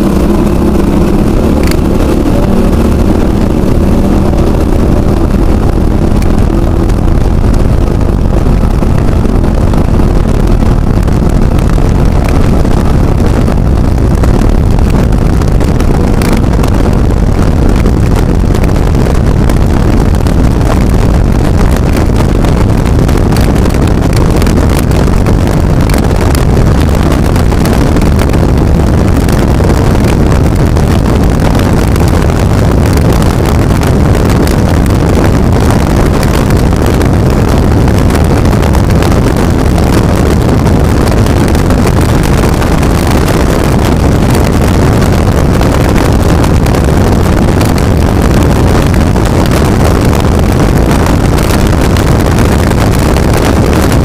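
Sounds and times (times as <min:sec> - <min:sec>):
powerboat engines at full throttle: 0:00.0 - 0:54.0
wind buffeting the microphone: 0:00.0 - 0:54.0.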